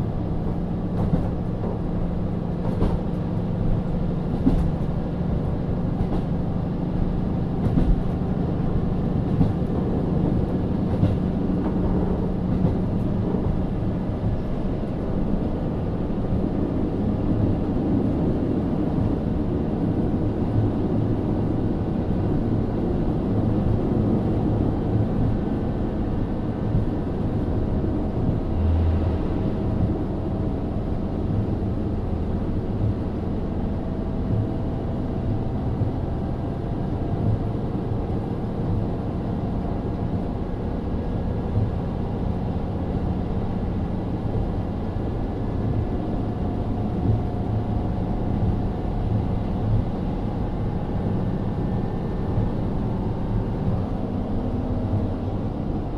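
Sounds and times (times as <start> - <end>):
diesel railcar engine drone: 0.0 - 55.9
wheel-on-rail rumble: 0.0 - 55.9.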